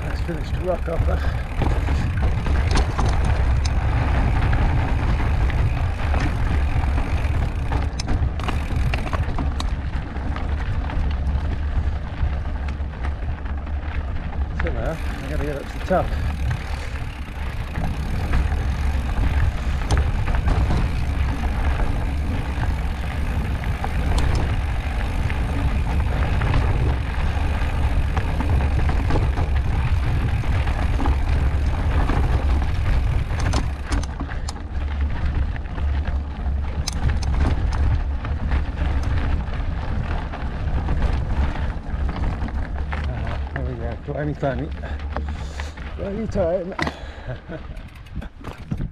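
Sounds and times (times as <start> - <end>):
bike clicks and rattles: 0.0 - 48.9
bike tyres rolling over rock: 0.0 - 48.9
wind buffeting microphone: 0.0 - 48.9.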